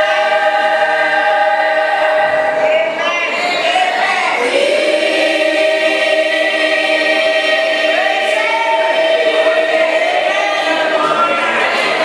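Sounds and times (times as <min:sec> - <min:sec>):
choir singing sustained notes: 0:00.0 - 0:12.0.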